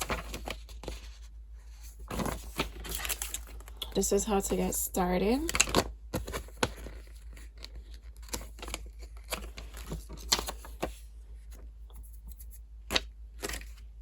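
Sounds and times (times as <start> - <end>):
packaging rustling and crinkling: 0.0 - 1.2, 1.8 - 4.0, 5.4 - 13.9.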